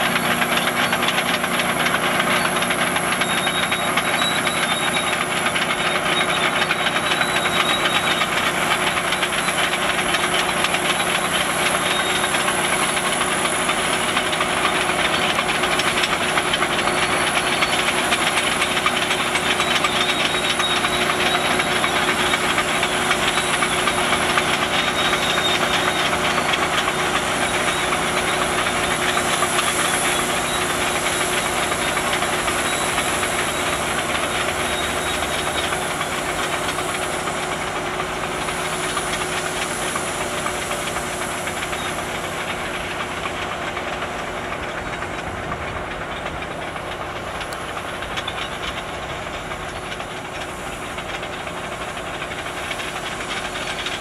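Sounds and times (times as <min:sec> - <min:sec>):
bulldozer diesel engine under load: 0:00.0 - 0:54.0
dense mechanical clatter and hiss: 0:08.0 - 0:54.0.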